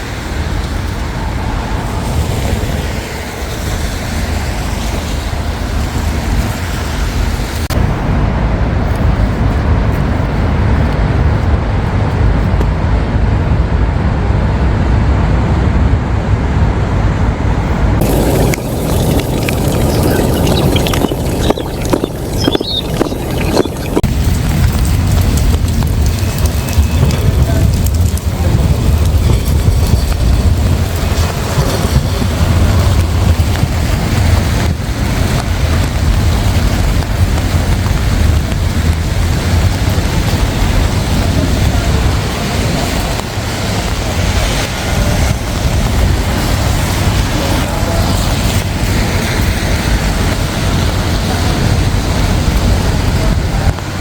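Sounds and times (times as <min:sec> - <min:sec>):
road traffic rush: 0:00.0 - 0:54.0.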